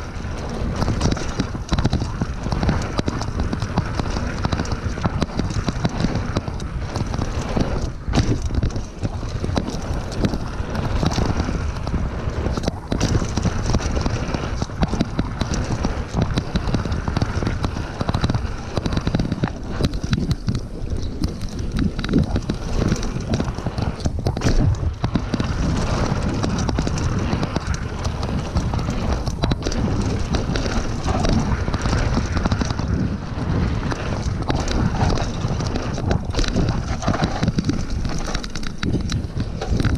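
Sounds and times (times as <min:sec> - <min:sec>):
mountain bike rattling downhill: 0:00.0 - 0:39.9
steady low rumble: 0:00.0 - 0:39.9
tyres rolling over bumps: 0:00.0 - 0:39.9.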